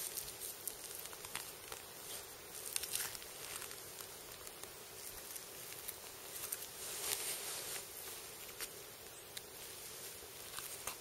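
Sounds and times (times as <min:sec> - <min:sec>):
rustling and scraping of skinning: 0:00.0 - 0:11.0.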